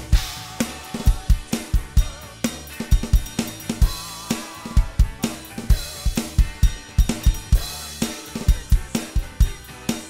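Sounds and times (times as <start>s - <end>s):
person singing: 0.0s - 3.2s, 3.8s - 6.5s, 7.2s - 10.0s
electronic drum kit rock beat: 0.0s - 10.0s
rock backing track: 0.0s - 10.0s.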